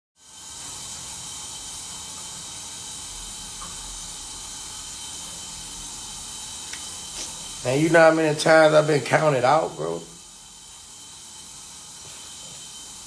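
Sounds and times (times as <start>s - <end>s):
room noise hiss: 0.2s - 13.0s.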